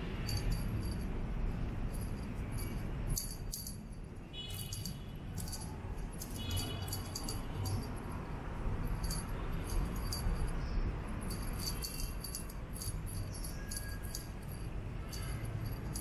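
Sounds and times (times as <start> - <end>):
small bell jingling: 0.0 - 16.0.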